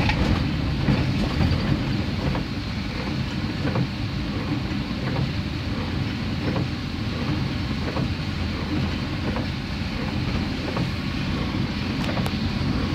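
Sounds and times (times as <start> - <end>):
car engine and road rumble: 0.0 - 12.9
rain hissing on windscreen: 0.0 - 12.9.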